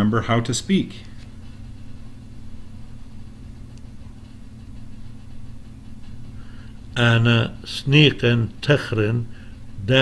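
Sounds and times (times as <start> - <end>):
low hum with faint hiss: 0.0 - 10.0.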